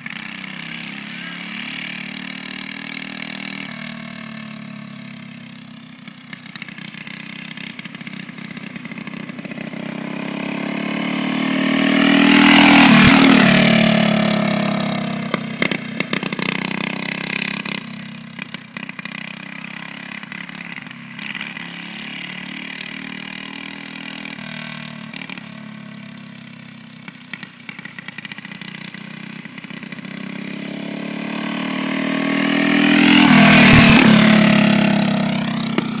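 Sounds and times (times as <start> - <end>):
go-kart engine passing: 0.0 - 36.0
distant engine sound: 3.1 - 36.0.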